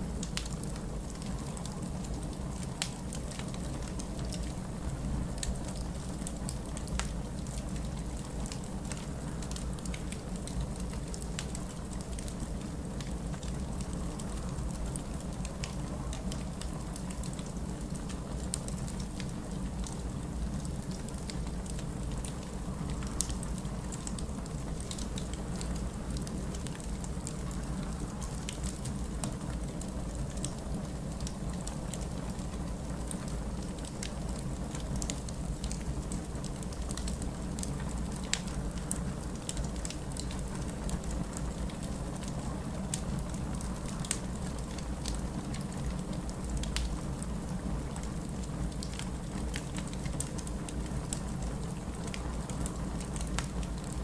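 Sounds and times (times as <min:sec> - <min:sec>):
fire low rumble: 0:00.0 - 0:54.0
wood fire crackling and popping: 0:00.0 - 0:54.0.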